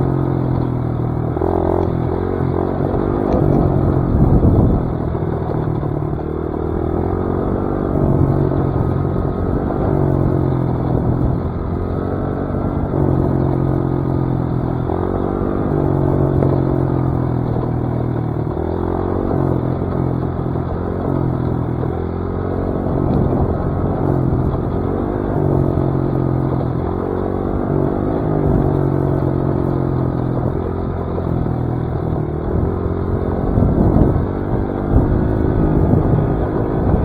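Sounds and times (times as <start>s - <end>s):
dirt bike engine: 0.0s - 37.0s.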